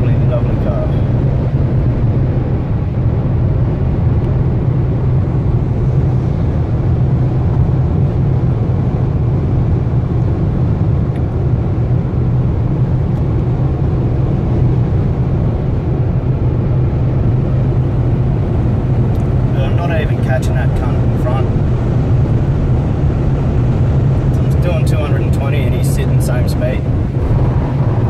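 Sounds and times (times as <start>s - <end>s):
low engine drone: 0.0s - 28.0s
road and wind noise: 0.0s - 28.0s.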